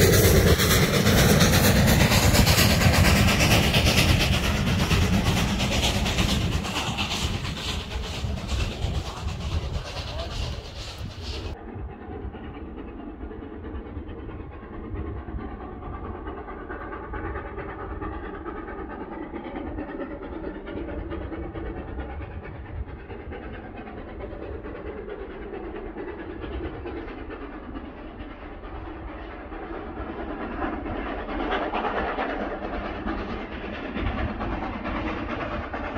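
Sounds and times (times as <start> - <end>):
steam train rumble: 0.0 - 35.9.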